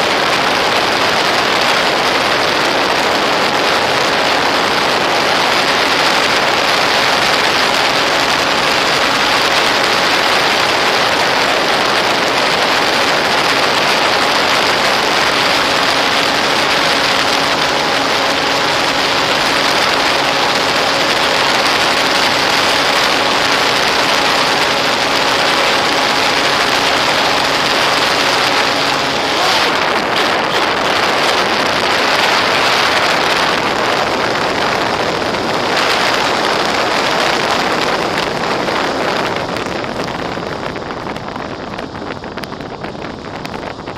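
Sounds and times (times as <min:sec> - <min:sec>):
electric motor and propeller hum: 0:00.0 - 0:43.9
wind rushing over microphone: 0:00.0 - 0:43.9.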